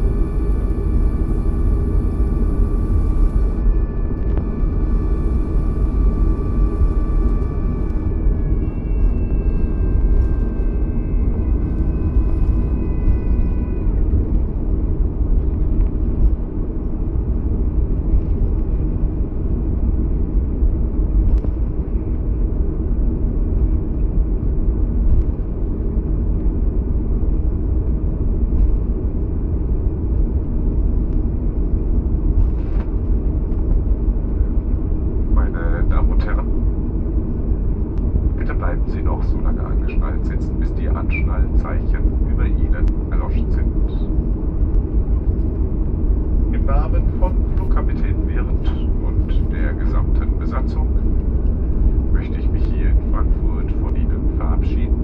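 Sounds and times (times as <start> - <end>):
aircraft cabin rumble: 0.0 - 55.0
jet engine whine: 0.0 - 55.0.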